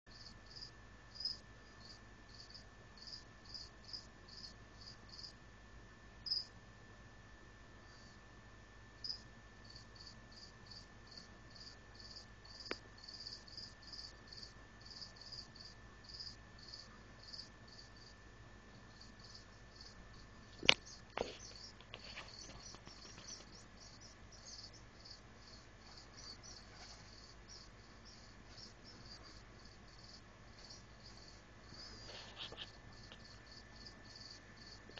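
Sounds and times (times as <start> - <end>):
cricket chirping: 0.1 - 5.4, 6.2 - 6.6, 7.8 - 8.2, 9.0 - 34.9.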